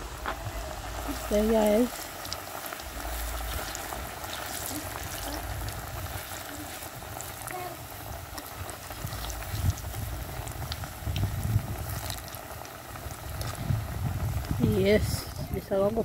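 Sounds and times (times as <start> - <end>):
plantains sizzling in hot oil: 0.0 - 16.0.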